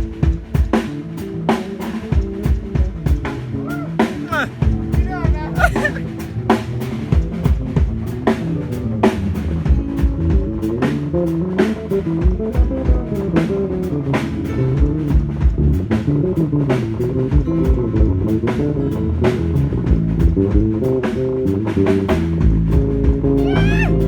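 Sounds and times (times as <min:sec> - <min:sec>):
bass guitar: 0:00.0 - 0:24.0
drum kit: 0:00.0 - 0:24.0
guitar line: 0:00.0 - 0:24.0.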